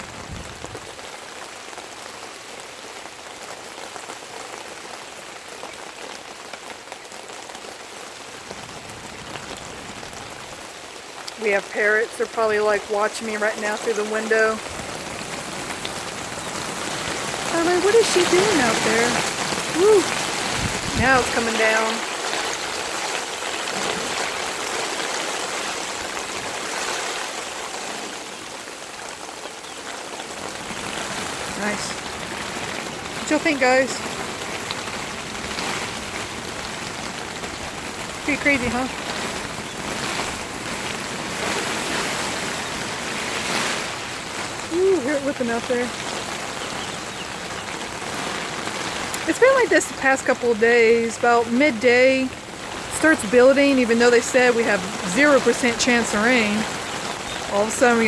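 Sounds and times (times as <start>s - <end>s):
heavy rain hissing: 0.0s - 58.0s
raindrops ticking on surfaces: 0.0s - 58.0s.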